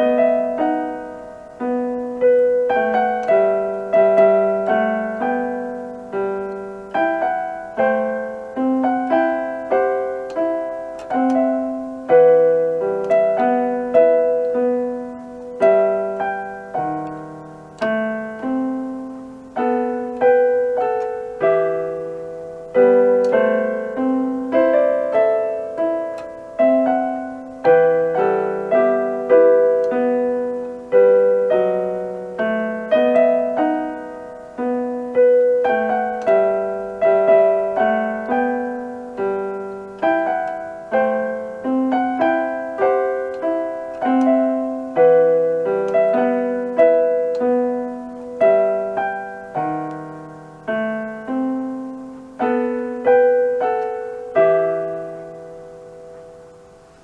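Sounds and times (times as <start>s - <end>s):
electronic keyboard piano melody: 0.0s - 57.0s.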